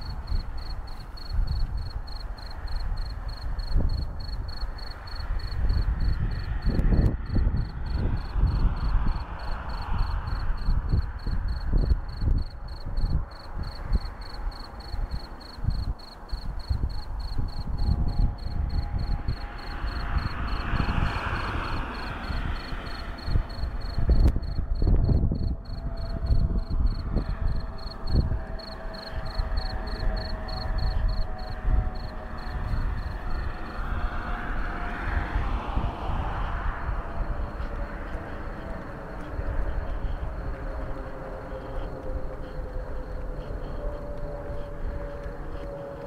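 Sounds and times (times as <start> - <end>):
car passing: 0.0 - 46.0
cricket chirping: 0.0 - 46.0
wind rumble on microphone: 0.0 - 46.0.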